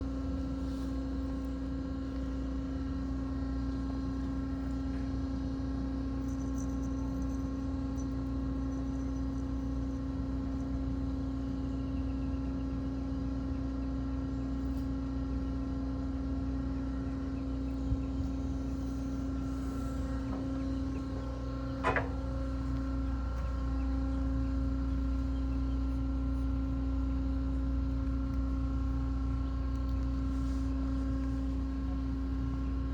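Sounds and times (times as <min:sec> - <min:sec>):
mechanical hum: 0:00.0 - 0:32.9.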